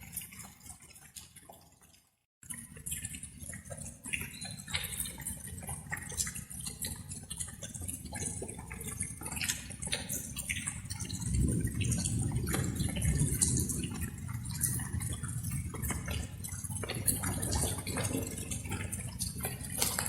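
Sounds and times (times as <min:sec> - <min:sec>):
water dripping: 0:00.0 - 0:20.0.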